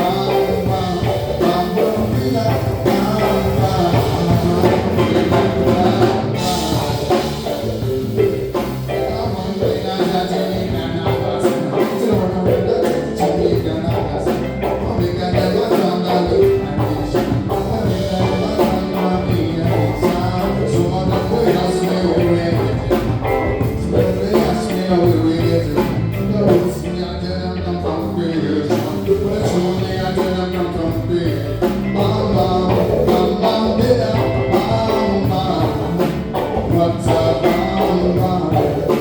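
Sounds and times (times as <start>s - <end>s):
steady drum beat: 0.0s - 26.9s, 28.0s - 39.0s
live band playing: 0.0s - 39.0s.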